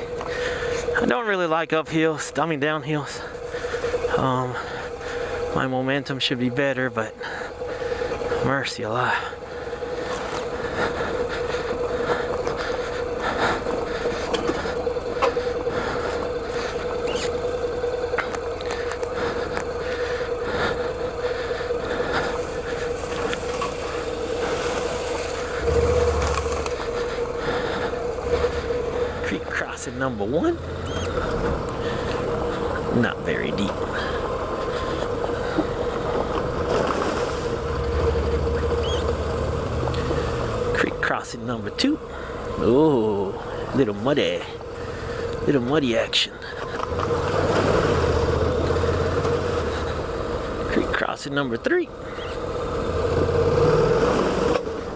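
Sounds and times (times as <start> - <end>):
motorcycle engine running: 0.0 - 53.6
tyres crunching on dirt: 0.0 - 54.9.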